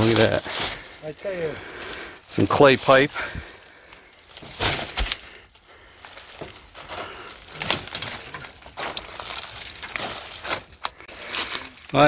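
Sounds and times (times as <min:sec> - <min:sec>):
footsteps crunching dry leaves: 0:00.0 - 0:01.7, 0:02.4 - 0:12.0
leaves rustling: 0:00.0 - 0:12.0.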